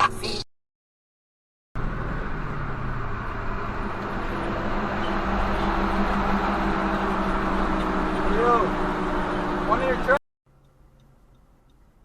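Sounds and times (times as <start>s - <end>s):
vehicle road and engine noise: 1.8s - 12.0s.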